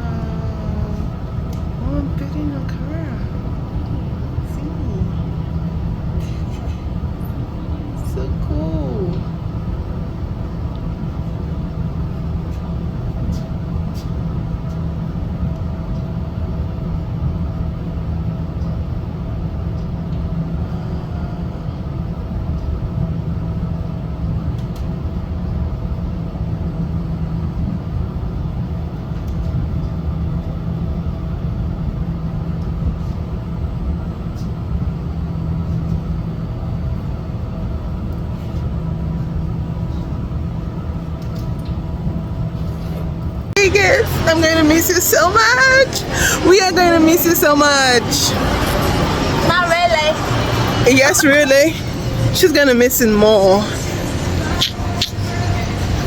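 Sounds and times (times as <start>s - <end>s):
faint constant tones: 0.0s - 56.0s
low hum and rumble: 0.0s - 56.0s.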